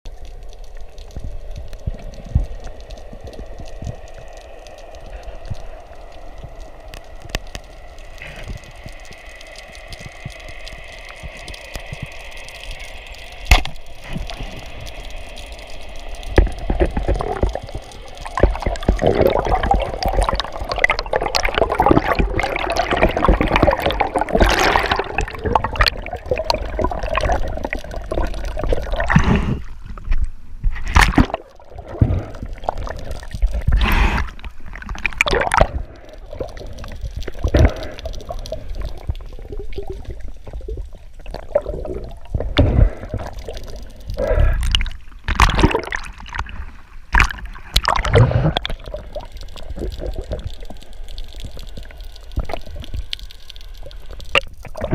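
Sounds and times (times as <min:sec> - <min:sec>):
sea water sloshing: 0:01.8 - 0:54.9.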